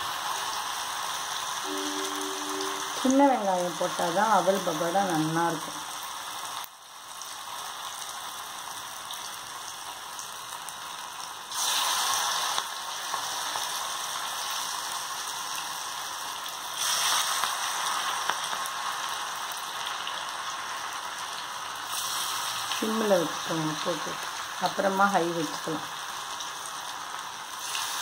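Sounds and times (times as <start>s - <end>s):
oil sizzling while deep-frying: 0.0s - 28.0s.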